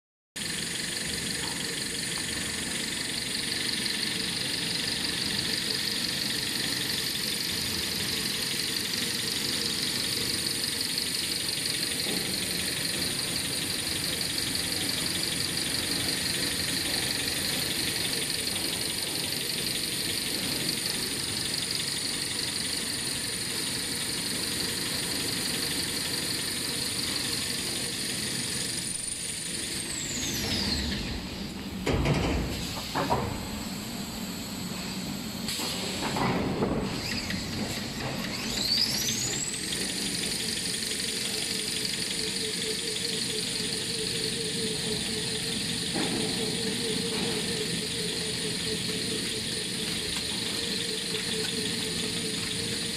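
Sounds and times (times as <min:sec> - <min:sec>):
production line machine whine: 0:00.4 - 0:52.9.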